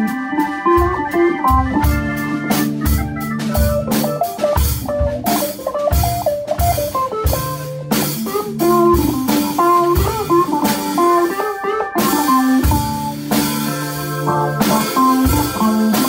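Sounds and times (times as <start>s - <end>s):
digital piano chords: 0.0s - 16.0s
drum kit beat: 0.0s - 16.0s
electric guitar lead melody: 0.0s - 16.0s.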